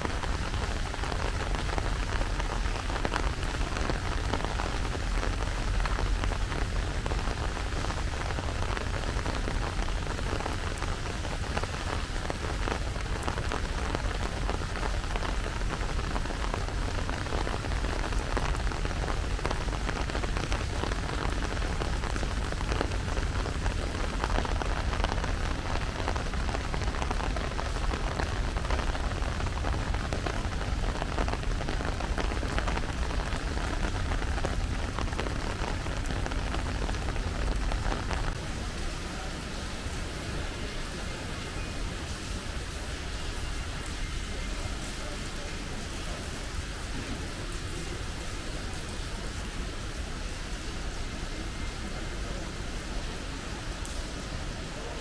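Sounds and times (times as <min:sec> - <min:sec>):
raindrops ticking: 0:00.0 - 0:38.4, 0:39.0 - 0:55.0
rain hissing: 0:00.0 - 0:55.0.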